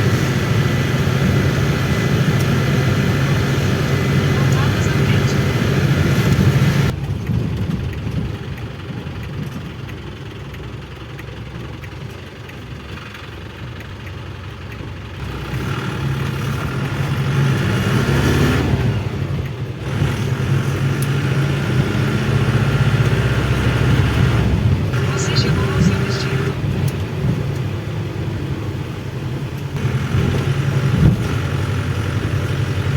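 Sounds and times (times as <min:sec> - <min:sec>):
diesel bus engine running: 0:00.0 - 0:32.9.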